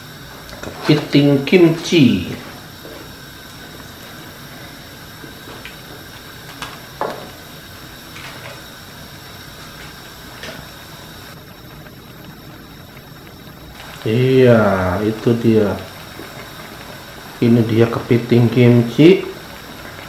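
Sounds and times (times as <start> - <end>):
stew bubbling in a wok: 0.0 - 20.0.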